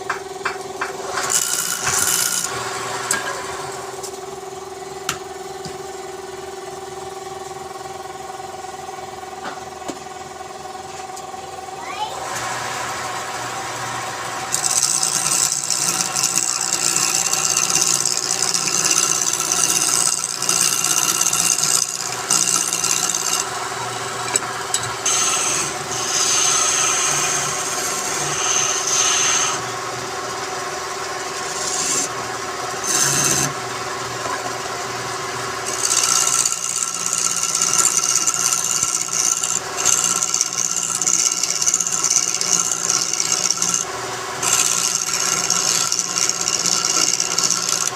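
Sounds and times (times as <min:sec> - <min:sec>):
wood lathe humming: 0:00.0 - 0:04.4, 0:12.2 - 0:47.9
tool scraping spinning wood: 0:00.0 - 0:04.7, 0:12.2 - 0:47.9.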